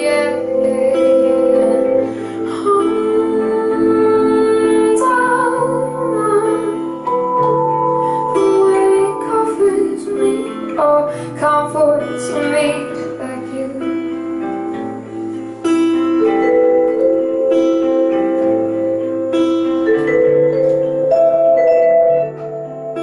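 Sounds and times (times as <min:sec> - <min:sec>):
vibraphone notes: 0:00.0 - 0:10.9, 0:14.7 - 0:23.0
acoustic guitar chords: 0:00.0 - 0:23.0
keyboard notes: 0:00.0 - 0:23.0.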